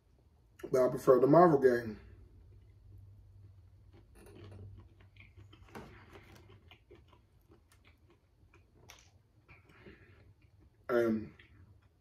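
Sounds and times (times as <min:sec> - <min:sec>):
low steady hum: 0:00.0 - 0:12.0
quiet chewing: 0:02.2 - 0:12.0.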